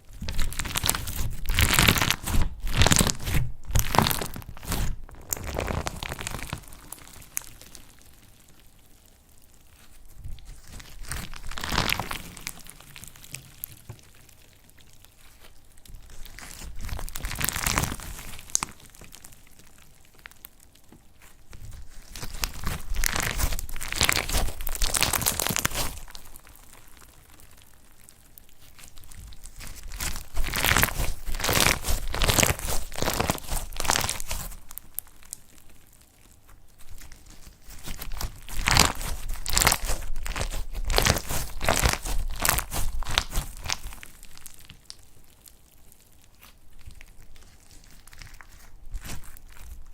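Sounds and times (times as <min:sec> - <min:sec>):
slime crackling and popping: 0:00.0 - 0:49.9.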